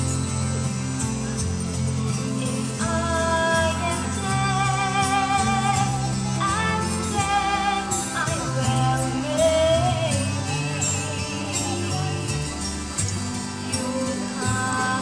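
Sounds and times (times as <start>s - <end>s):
low instrumental accompaniment: 0.0s - 15.0s
woman singing into microphone: 2.4s - 15.0s.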